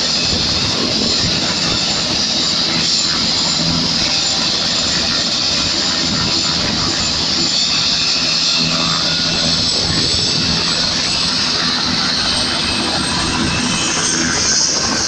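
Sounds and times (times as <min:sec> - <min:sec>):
helicopter rotor running: 0:00.0 - 0:15.0.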